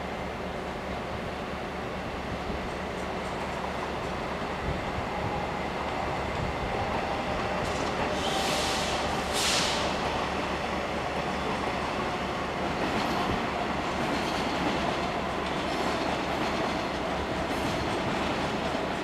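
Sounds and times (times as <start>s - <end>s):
train running on tracks: 0.0s - 19.0s.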